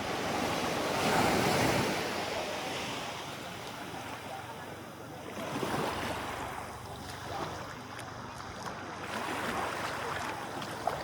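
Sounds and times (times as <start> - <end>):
sea waves washing in shallows: 0.0 - 11.0.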